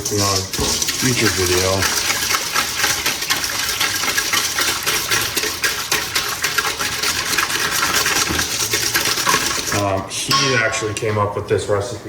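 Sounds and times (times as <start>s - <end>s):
whisk clattering in a bowl: 0.0s - 11.3s.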